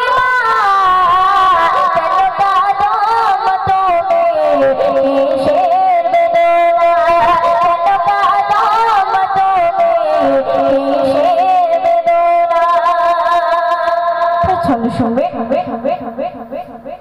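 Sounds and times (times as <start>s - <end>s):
girl singing into a microphone: 0.0s - 17.0s.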